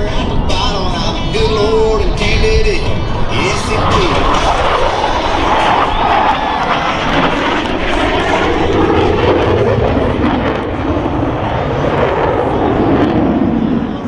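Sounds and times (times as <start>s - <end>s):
jet engines passing overhead: 0.0s - 14.0s.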